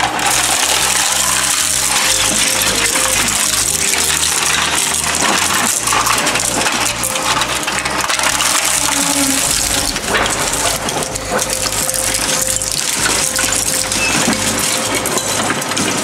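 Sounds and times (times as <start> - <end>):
fragments clinking and rattling: 0.0 - 16.0
shredder crunching metal and plastic: 0.0 - 16.0.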